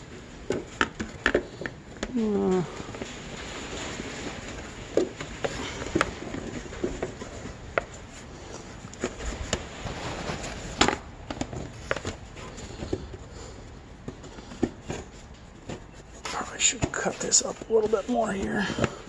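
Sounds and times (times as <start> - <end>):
plastic sheet tapping and rustling: 0.0 - 19.0.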